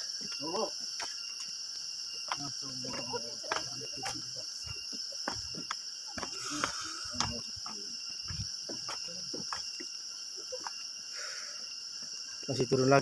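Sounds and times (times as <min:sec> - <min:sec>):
footsteps on trail: 0:00.0 - 0:10.9
high-pitched insect drone: 0:00.0 - 0:13.0.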